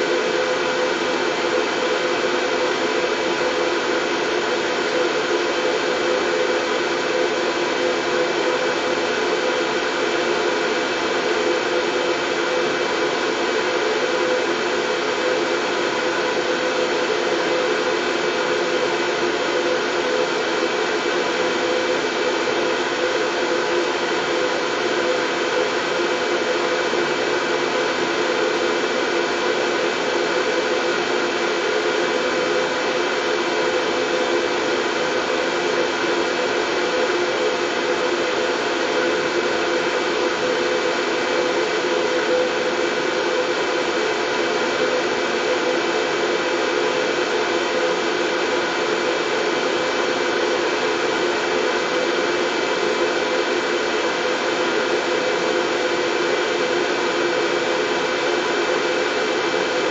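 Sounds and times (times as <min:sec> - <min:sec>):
white noise: 0:00.0 - 0:59.9.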